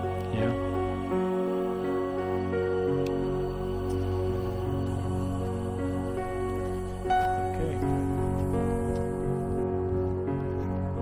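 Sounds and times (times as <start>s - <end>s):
slow new-age instrumental music: 0.0s - 11.0s.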